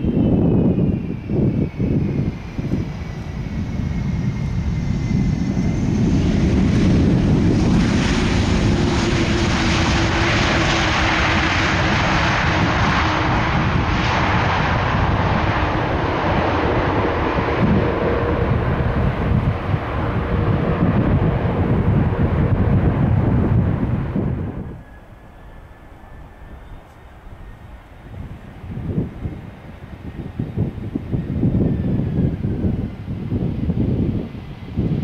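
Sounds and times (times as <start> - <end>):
jet engine roar: 0.0 - 35.0
jet engine whine: 0.0 - 35.0.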